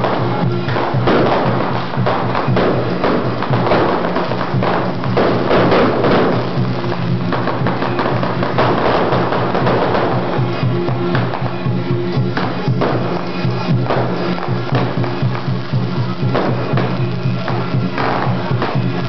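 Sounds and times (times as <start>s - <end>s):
rapid rattling percussion: 0.0s - 19.0s.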